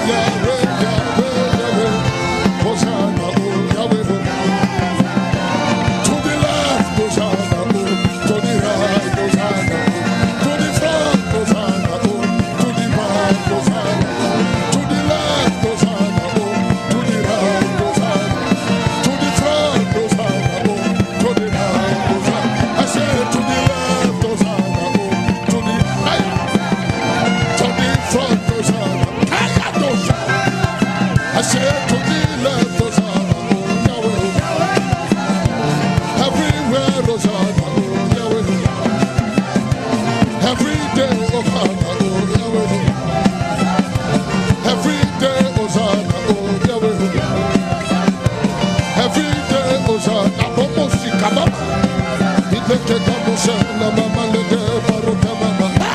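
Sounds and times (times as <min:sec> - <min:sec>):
steady drum beat: 0:00.0 - 0:55.9
upbeat worship music: 0:00.0 - 0:55.9.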